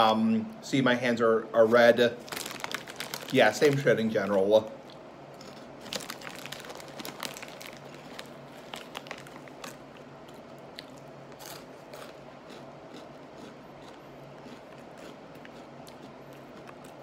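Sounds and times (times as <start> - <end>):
person crunching cheese curls: 2.2 - 3.9, 4.8 - 17.0.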